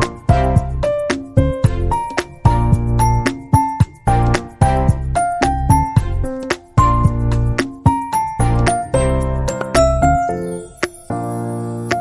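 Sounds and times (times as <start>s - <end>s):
keyboard music with bass line: 0.0s - 12.0s.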